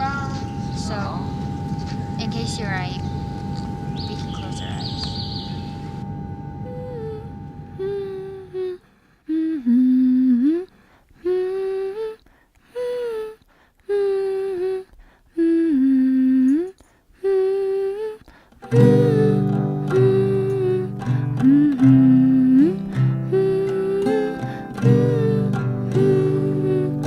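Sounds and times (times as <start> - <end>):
person humming a slow melody: 3.4 - 27.0.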